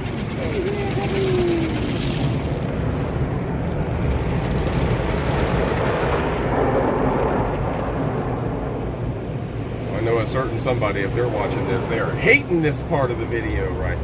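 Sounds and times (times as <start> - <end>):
rushing rumbling car interior noise: 0.0 - 14.0.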